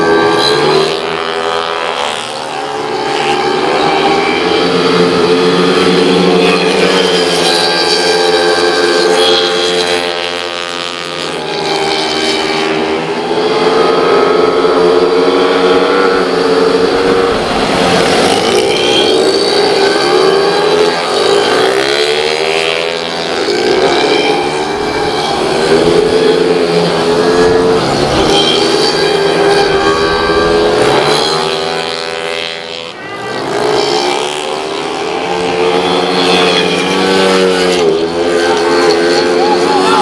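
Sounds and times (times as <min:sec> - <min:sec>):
racing scooter engines: 0:00.0 - 0:40.0.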